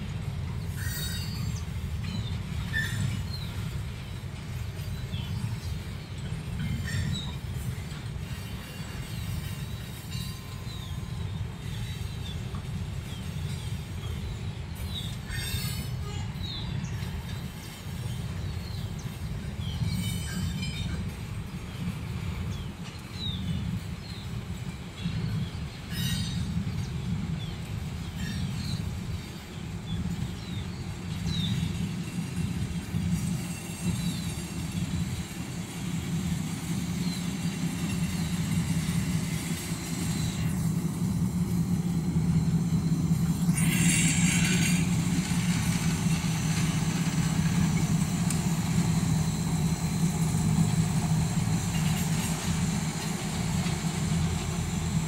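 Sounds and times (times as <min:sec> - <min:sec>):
diesel locomotive rumble: 0:00.0 - 0:55.0.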